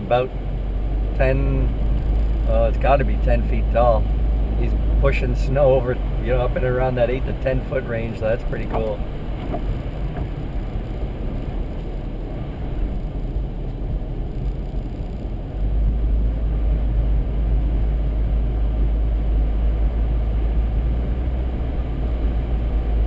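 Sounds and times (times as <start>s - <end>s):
road and wind noise: 0.0s - 23.0s
vehicle rumble from inside cabin: 0.0s - 23.0s.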